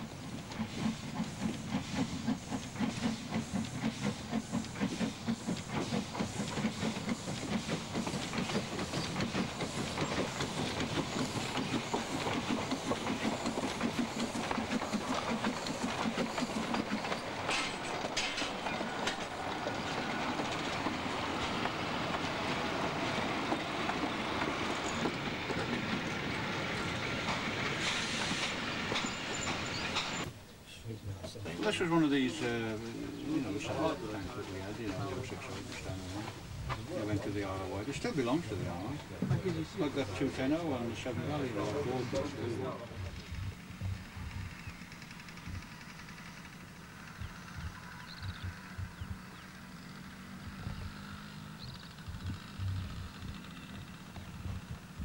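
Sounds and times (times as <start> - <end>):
steam locomotive exhaust chuffs: 0.0 - 30.3, 31.6 - 55.0
train rolling rumble and clatter: 0.0 - 55.0.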